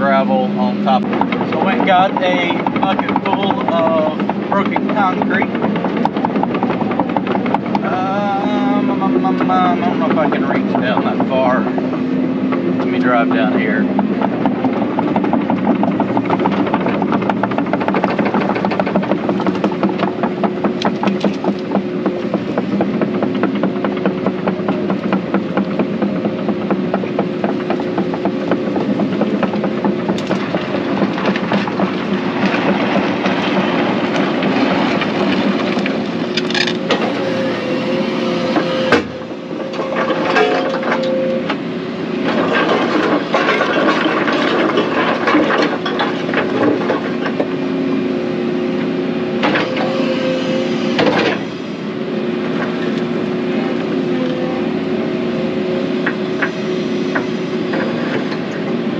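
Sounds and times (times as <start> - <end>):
excavator diesel engine running: 0.0 - 58.9
tracks clattering: 0.0 - 58.9.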